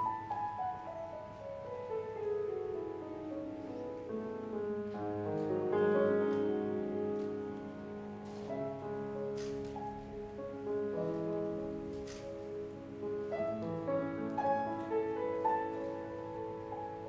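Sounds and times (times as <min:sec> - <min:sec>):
improvised piano music: 0:00.0 - 0:17.0.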